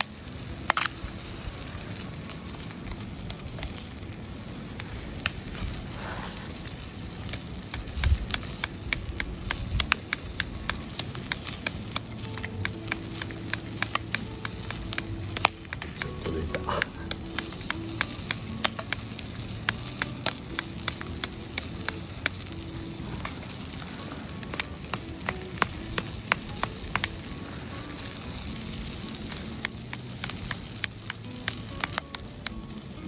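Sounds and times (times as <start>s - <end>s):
bacon sizzling: 0.0s - 33.0s.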